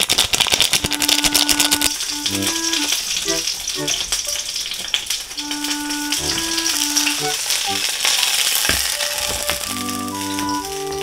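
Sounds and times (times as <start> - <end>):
food sizzling in a hot pan: 0.0 - 11.0.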